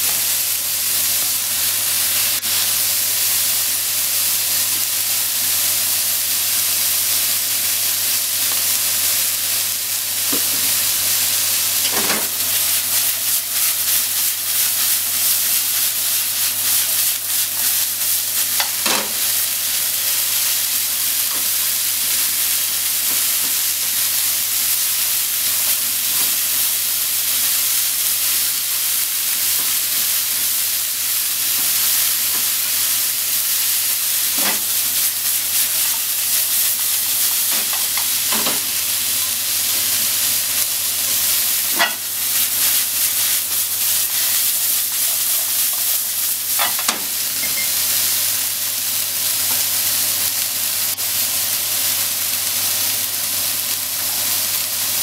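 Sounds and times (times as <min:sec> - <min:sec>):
vegetables sizzling in a frying pan: 0:00.0 - 0:55.0.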